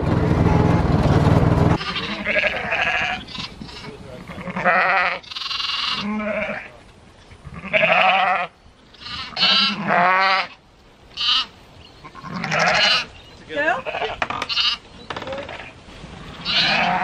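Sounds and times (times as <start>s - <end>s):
sheep and lambs bleating: 1.8s - 6.7s, 7.4s - 17.0s.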